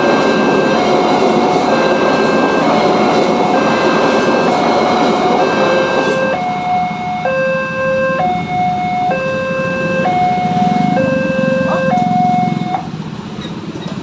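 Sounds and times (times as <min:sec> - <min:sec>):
two-tone crossing alarm: 0:00.0 - 0:12.9.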